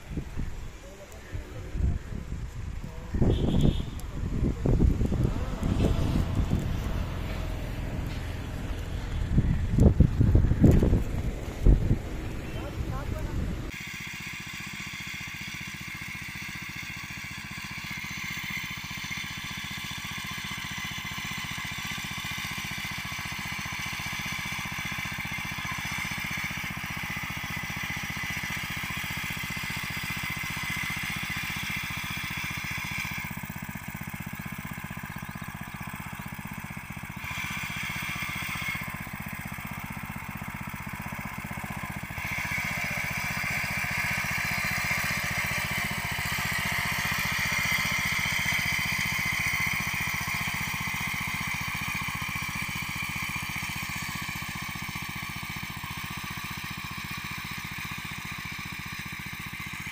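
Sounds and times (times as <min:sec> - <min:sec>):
small petrol engine running: 0:00.0 - 0:59.9.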